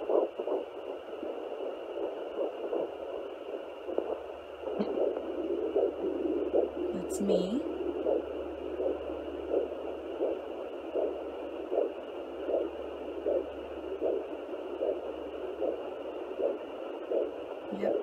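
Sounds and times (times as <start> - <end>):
doppler pulse beats: 0.0 - 18.0
static hiss: 0.0 - 18.0.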